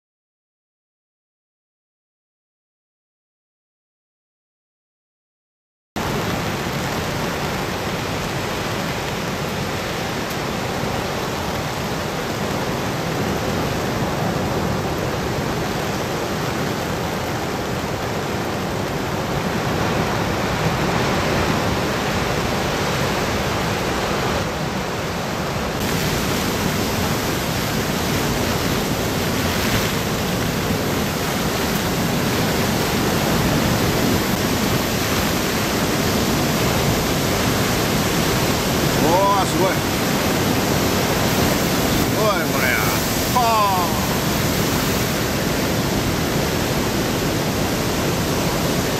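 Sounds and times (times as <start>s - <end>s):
heavy surf breaking on rocks: 6.0s - 48.9s
storm wind: 6.0s - 48.9s.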